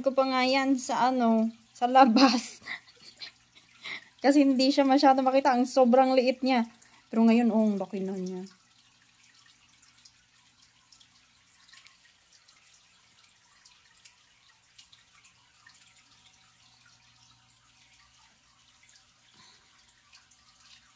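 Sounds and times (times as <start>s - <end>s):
water drips and bubbles: 0.0s - 20.9s.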